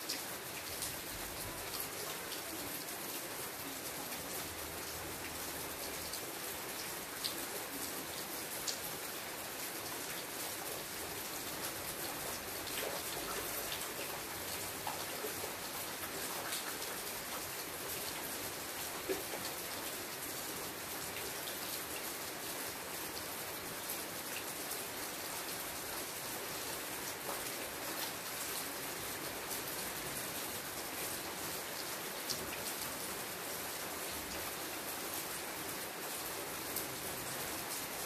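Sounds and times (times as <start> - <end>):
rain on leaves: 0.0 - 38.0.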